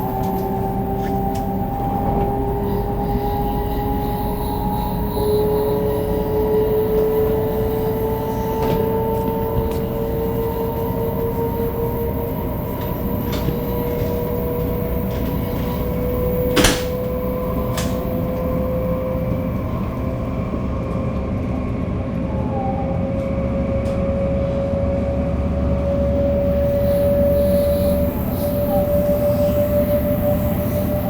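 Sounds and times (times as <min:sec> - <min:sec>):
train inverter whine rising: 0:00.0 - 0:31.0
train rolling rumble: 0:00.0 - 0:31.0.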